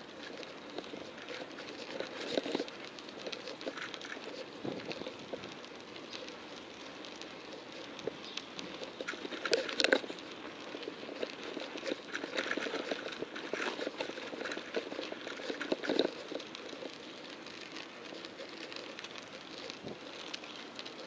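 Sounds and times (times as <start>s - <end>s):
bicycle crackling and rattling: 0.0s - 21.0s.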